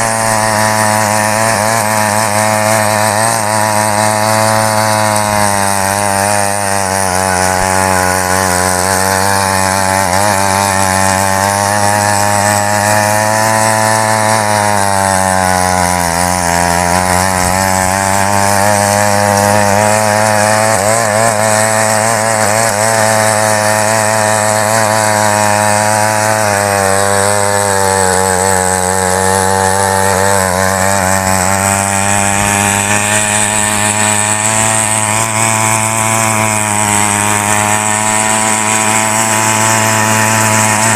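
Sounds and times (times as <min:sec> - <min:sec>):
small two-stroke engine running: 0:00.0 - 0:40.9
tines churning soil: 0:00.0 - 0:40.9.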